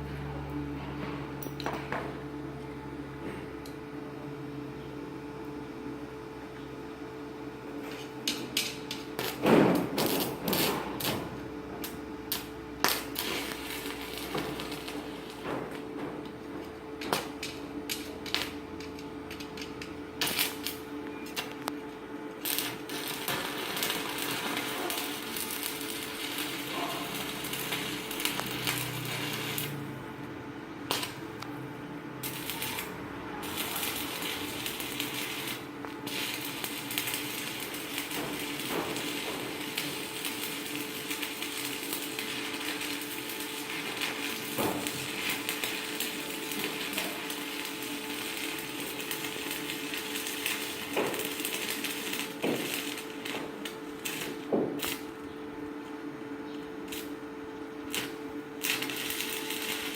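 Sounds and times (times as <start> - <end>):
steady hum: 0.0 - 59.9
welding arc crackling: 7.8 - 59.9.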